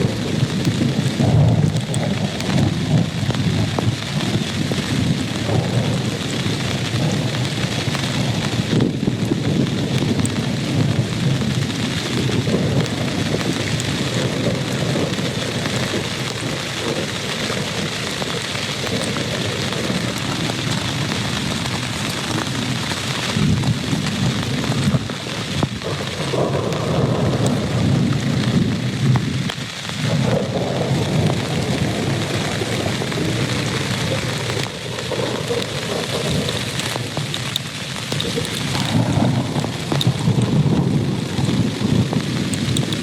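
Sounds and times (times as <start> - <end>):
heavy rain: 0.0 - 43.0
thunder rumbling: 0.0 - 43.0.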